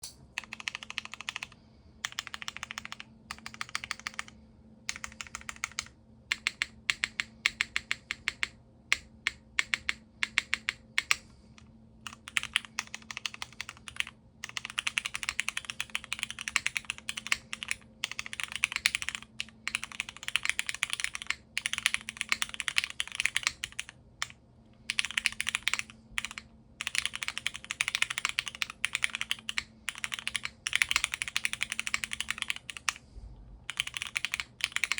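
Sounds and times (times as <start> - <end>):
faint steady hum: 0.0 - 34.9
mechanical keyboard typing: 0.4 - 11.2, 12.0 - 33.0, 33.7 - 34.9.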